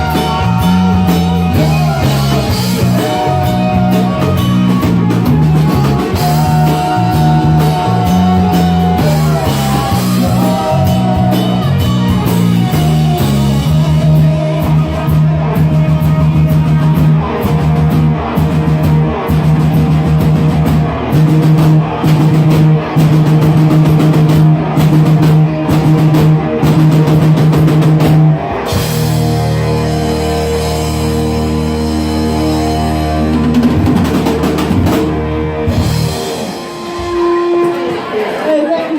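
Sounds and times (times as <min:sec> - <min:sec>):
chugging low guitar notes: 0:00.0 - 0:38.4
hard rock band playing: 0:00.0 - 0:38.9.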